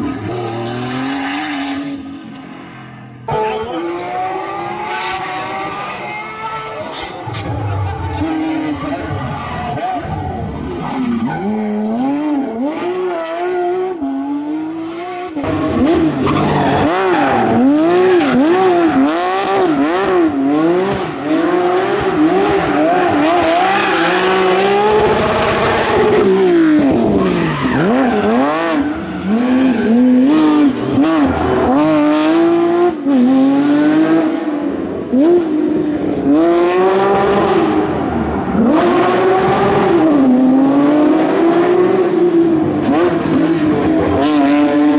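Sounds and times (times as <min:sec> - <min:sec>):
rally car engine revving: 0:00.0 - 0:44.9.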